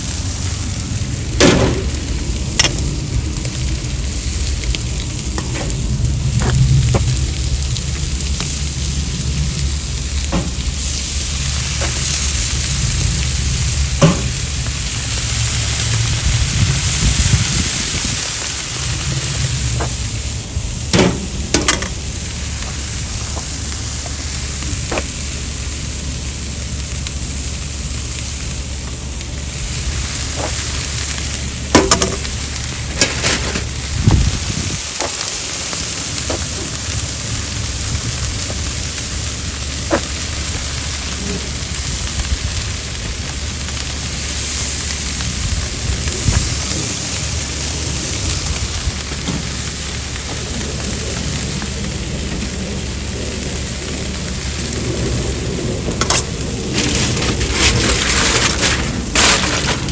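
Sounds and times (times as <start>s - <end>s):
food sizzling on a grill: 0.0s - 59.9s.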